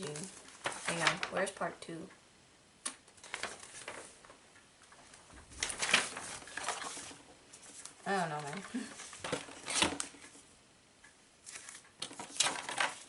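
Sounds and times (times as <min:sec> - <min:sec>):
paper pages rustling: 0:00.0 - 0:01.6, 0:03.1 - 0:10.4, 0:11.4 - 0:13.0.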